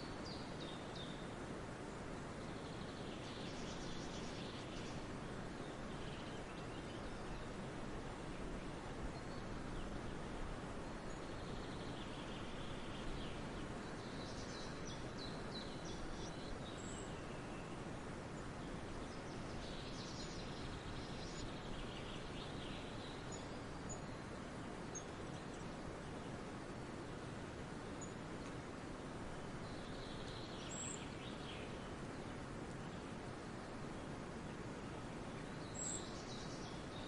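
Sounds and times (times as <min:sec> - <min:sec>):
songbirds singing: 0:00.0 - 0:37.0
steady background hiss: 0:00.0 - 0:37.0.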